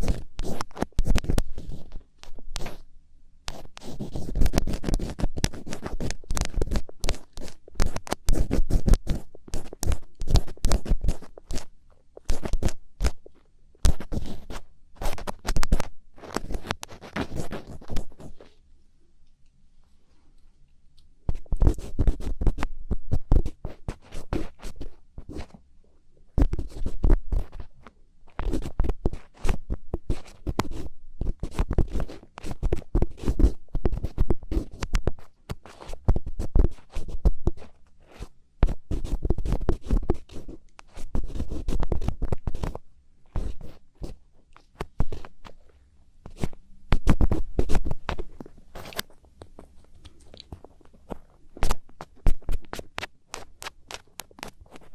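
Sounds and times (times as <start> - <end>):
ear pick scratching: 0.0 - 2.9, 3.5 - 18.6, 21.3 - 25.6, 26.4 - 45.6, 46.2 - 54.9.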